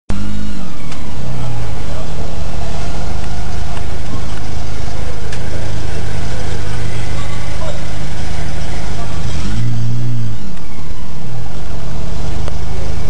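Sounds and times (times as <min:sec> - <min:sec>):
car engine idling: 0:00.1 - 0:13.0.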